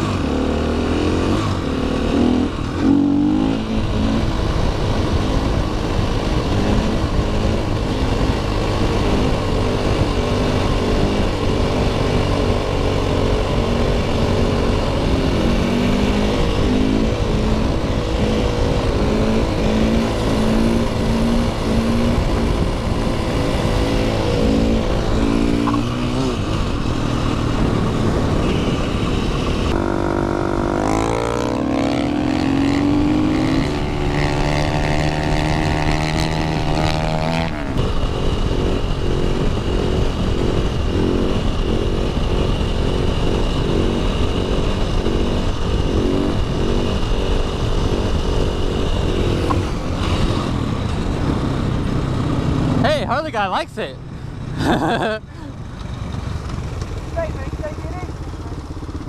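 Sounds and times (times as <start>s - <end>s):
dirt bike engine revving: 0.0s - 55.2s.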